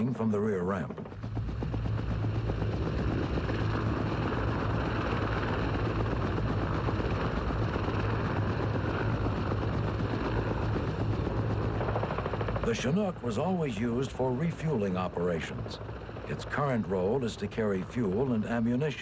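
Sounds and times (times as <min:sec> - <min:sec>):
helicopter rotor and engine: 0:00.0 - 0:19.0.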